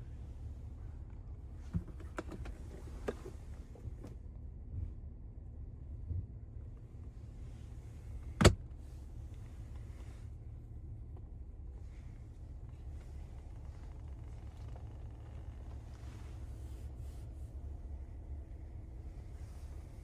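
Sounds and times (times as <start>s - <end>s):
car cabin road and engine rumble: 0.0s - 20.0s.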